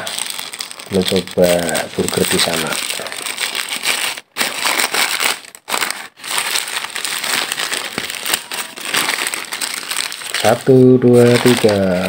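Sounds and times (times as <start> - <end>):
paper wrapper crinkling: 0.0 - 12.0.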